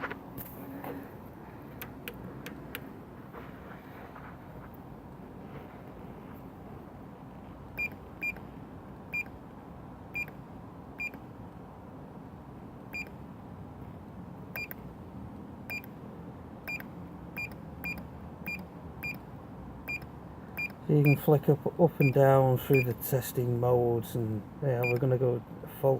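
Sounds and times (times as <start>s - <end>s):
low background hum: 0.0s - 25.9s.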